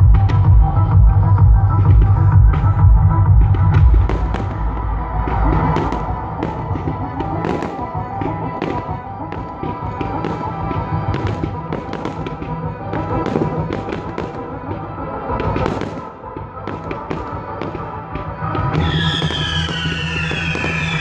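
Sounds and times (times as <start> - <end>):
music with steady beat: 0.0 - 21.0
fireworks bursting and crackling: 3.6 - 21.0.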